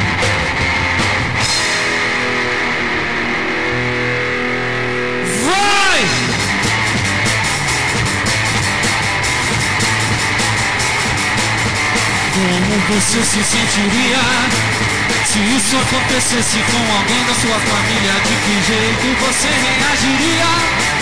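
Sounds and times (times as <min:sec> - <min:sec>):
drum kit and cymbals: 0:00.0 - 0:02.6, 0:05.7 - 0:21.0
bass guitar: 0:00.0 - 0:21.0
distorted electric guitar: 0:00.0 - 0:21.0.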